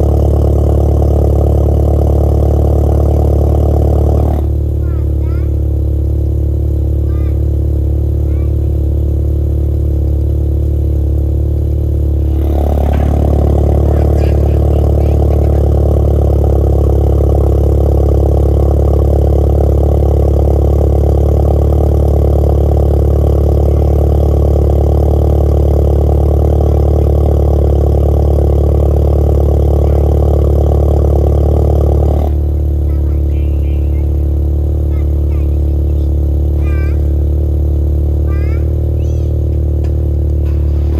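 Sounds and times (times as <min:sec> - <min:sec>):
vehicle engine exhaust drone: 0:00.0 - 0:40.9.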